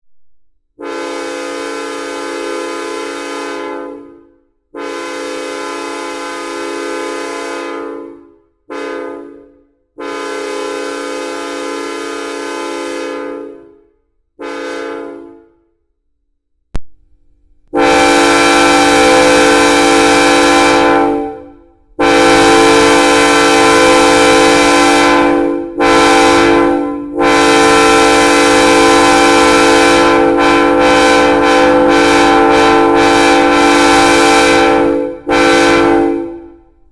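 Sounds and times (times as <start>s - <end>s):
locomotive air horn blasts: 0.8s - 15.8s, 17.7s - 36.9s.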